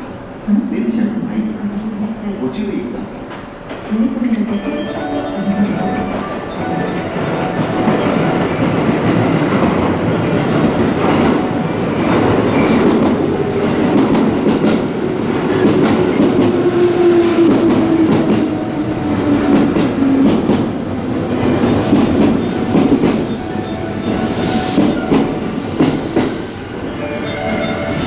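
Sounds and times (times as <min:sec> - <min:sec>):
electric train falling tone: 0:04.5 - 0:28.0.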